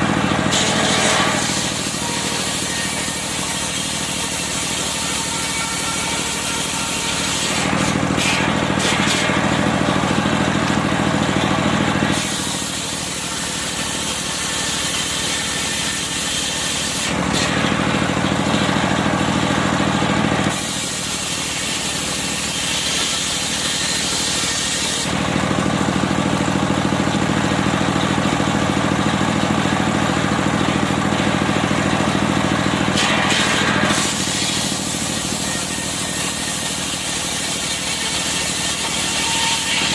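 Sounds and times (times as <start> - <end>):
circular sawmill cutting log: 0.0 - 39.9.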